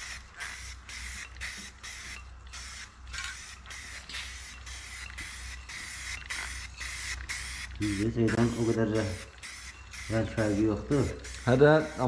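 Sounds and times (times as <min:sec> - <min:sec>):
aerosol spray hissing bursts: 0:00.0 - 0:12.0.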